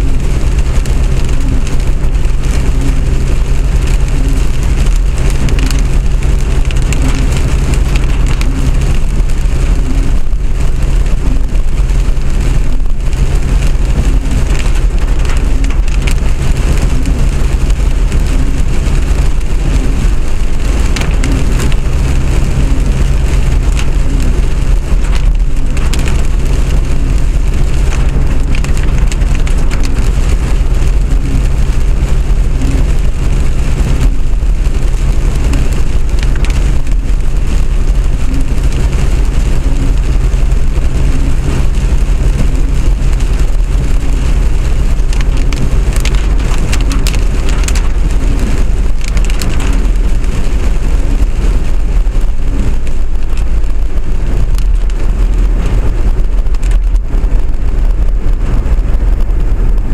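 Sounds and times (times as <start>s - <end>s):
rain and wet road noise: 0.0s - 59.9s
vehicle interior rumble: 0.0s - 59.9s.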